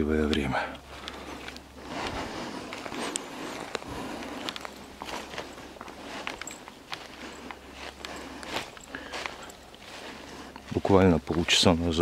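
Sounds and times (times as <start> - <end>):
footsteps crunching dry leaves: 0.8 - 12.0.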